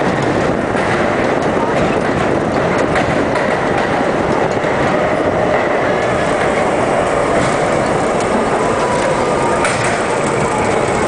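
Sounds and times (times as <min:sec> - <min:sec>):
subway car rumbling on rails: 0:00.0 - 0:11.0
wheels clicking: 0:00.0 - 0:11.0.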